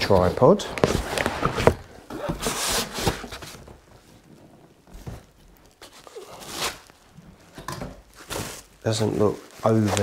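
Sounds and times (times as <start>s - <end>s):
cardboard scraping rustle: 0.0s - 4.3s, 4.9s - 7.0s, 8.1s - 10.0s
packaging handling noise: 0.0s - 10.0s.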